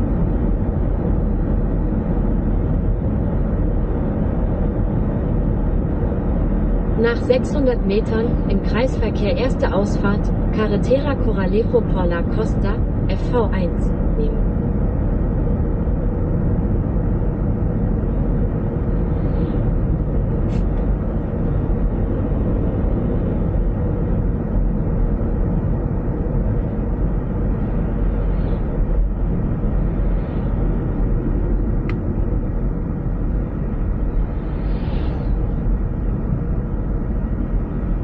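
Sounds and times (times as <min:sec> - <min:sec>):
car road and tyre noise: 0:00.0 - 0:38.0
engine rumble: 0:00.0 - 0:38.0.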